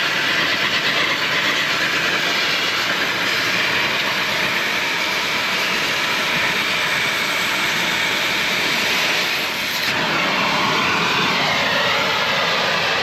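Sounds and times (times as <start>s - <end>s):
cutting torch hissing roar: 0.0s - 13.0s.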